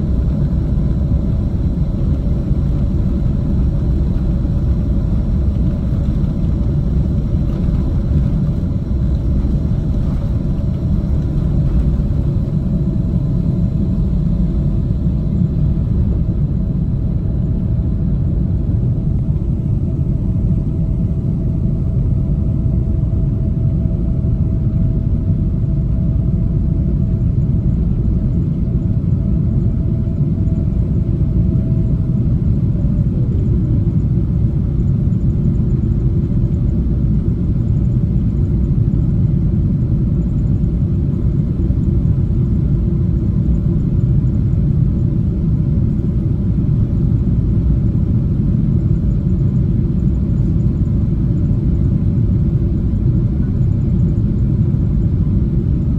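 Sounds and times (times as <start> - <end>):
faint steady whine: 0.0 - 55.9
jet cabin rumble: 0.0 - 55.9.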